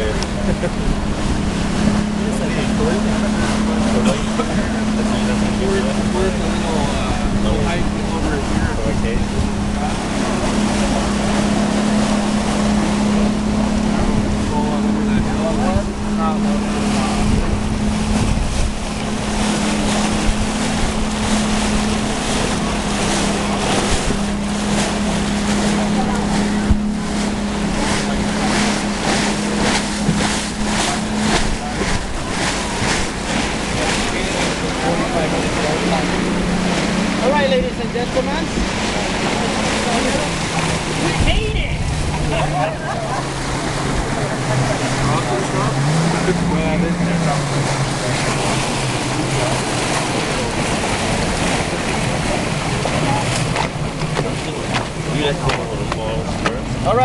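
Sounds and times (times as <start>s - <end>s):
wind on microphone: 0.0s - 56.9s
motorboat engine humming: 0.0s - 57.0s
water rushing: 0.0s - 57.0s.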